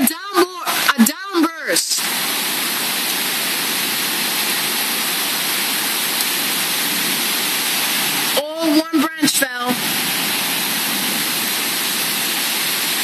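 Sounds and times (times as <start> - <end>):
heavy rain pouring down: 0.0 - 13.0.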